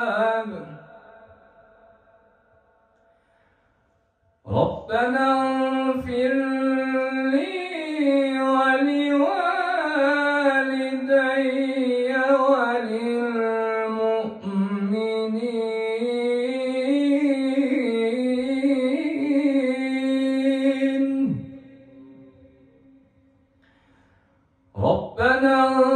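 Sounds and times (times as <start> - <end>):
man reciting melodically: 0.0 - 1.9, 4.4 - 23.0, 24.7 - 25.9.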